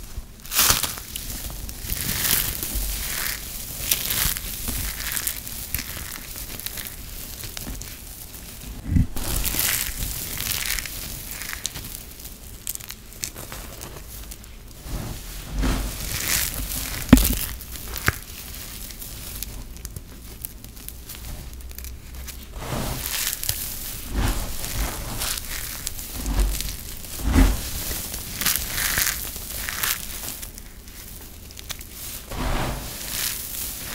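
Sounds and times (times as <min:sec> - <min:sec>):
hands crunching dry soap shavings: 0:00.0 - 0:33.9.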